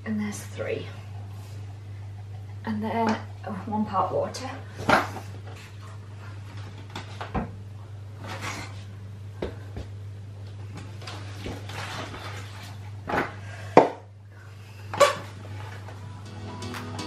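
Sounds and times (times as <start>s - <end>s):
steady low hum: 0.0s - 11.7s, 12.7s - 17.0s.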